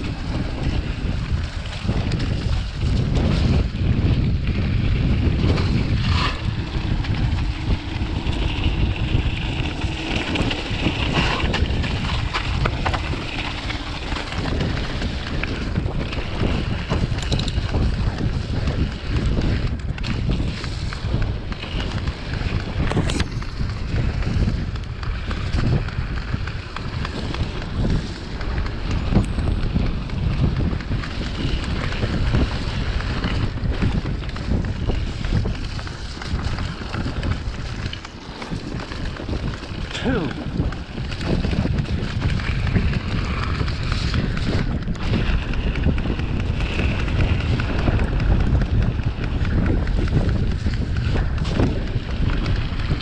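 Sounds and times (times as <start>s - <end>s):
bike knocking and rattling: 0.0s - 53.0s
bike tyres on dirt: 0.0s - 53.0s
wind rushing over microphone: 0.0s - 53.0s.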